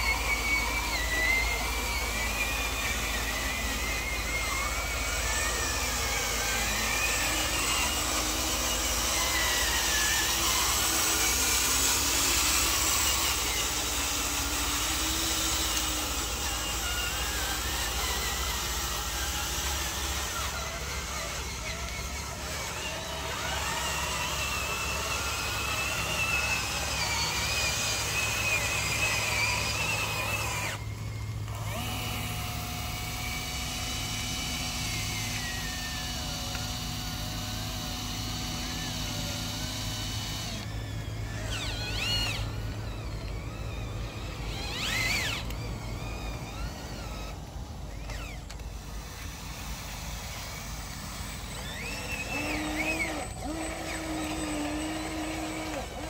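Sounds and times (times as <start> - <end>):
toy truck electric motors whining: 0.0 - 56.0.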